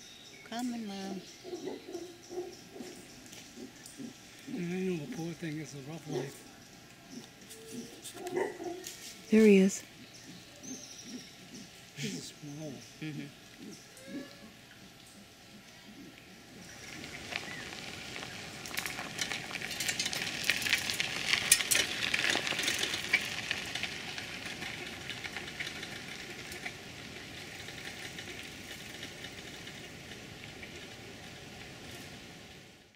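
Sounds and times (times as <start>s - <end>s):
bicycle tyres crackling over leaves: 0.0s - 32.9s.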